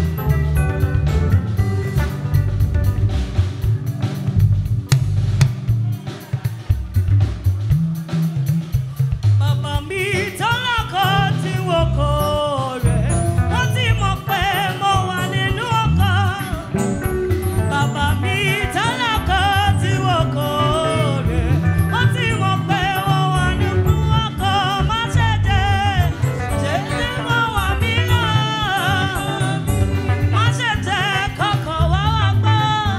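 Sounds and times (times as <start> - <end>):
live gospel band playing: 0.0 - 32.9.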